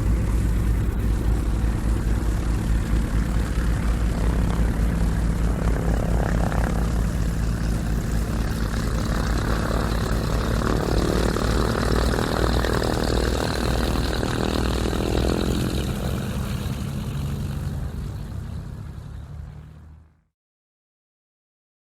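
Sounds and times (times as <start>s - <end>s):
propeller airplane engine droning: 0.0s - 20.3s.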